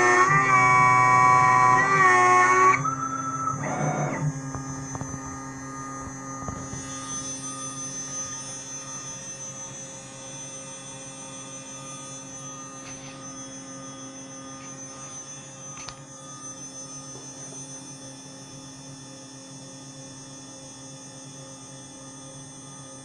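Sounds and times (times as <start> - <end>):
milling machine spindle humming: 0.0 - 20.7.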